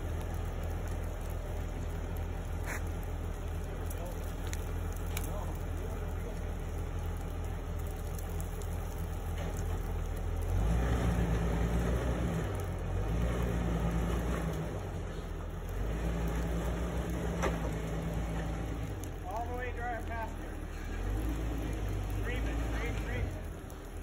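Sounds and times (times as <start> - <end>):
engine working under load: 0.0 - 24.0.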